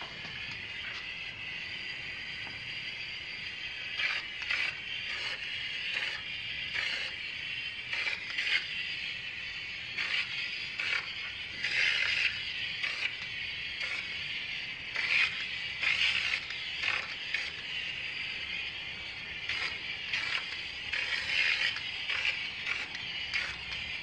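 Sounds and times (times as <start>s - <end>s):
paint spray gun hissing: 0.0s - 24.0s.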